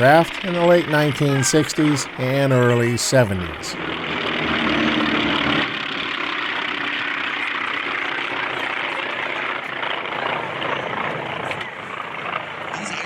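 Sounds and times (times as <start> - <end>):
propeller planes droning: 0.0 - 13.0.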